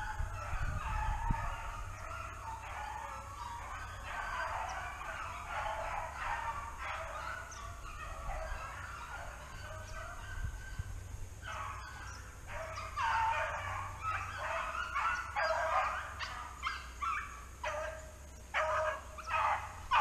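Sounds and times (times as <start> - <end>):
dogs baying: 0.0 - 20.0.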